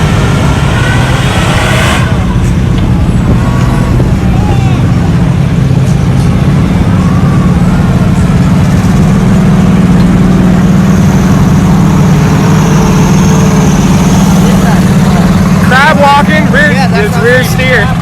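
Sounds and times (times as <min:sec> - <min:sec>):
vehicle engine running loudly: 0:00.0 - 0:18.0.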